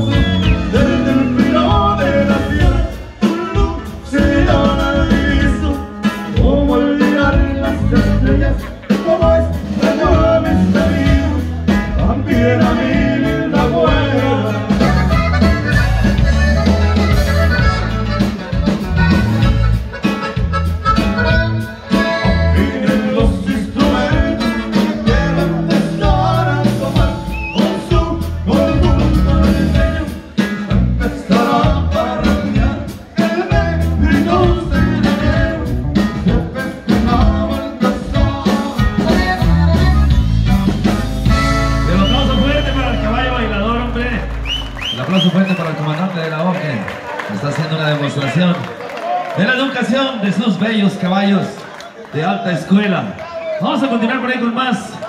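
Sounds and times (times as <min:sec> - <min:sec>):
accordion: 0:00.0 - 0:45.4
bass and drum beat: 0:00.0 - 0:45.5
guitar: 0:00.0 - 0:45.9.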